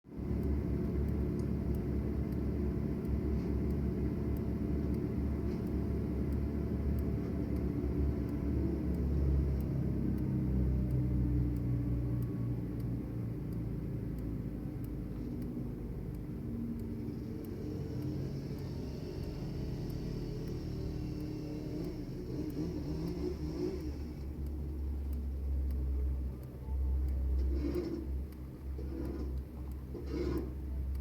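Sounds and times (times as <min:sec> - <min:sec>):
large engine rumbling: 0:00.1 - 0:31.0.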